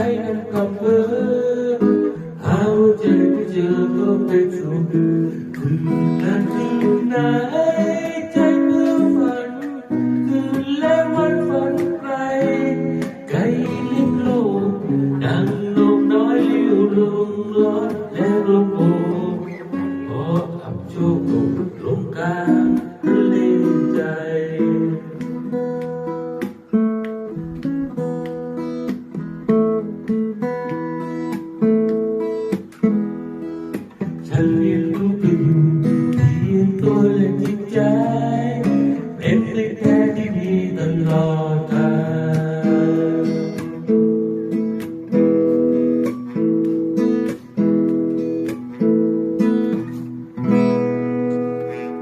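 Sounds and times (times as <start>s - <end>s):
acoustic guitar playing: 0.0s - 52.0s.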